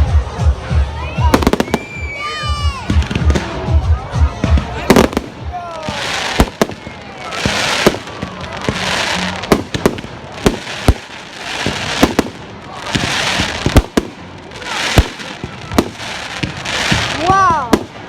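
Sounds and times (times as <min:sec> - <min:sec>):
crackling hiss of fireworks: 0:00.0 - 0:18.0.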